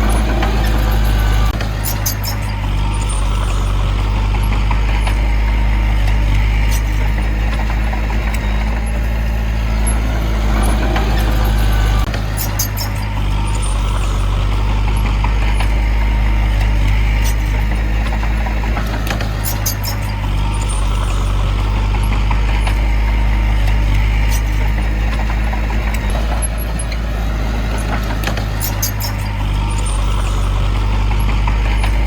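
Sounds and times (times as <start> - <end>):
large diesel engine droning: 0.0 - 32.0.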